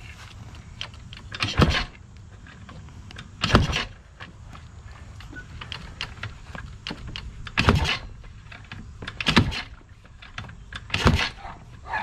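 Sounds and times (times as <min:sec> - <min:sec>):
engine cranking without starting: 0:00.8 - 0:04.3, 0:05.1 - 0:12.0.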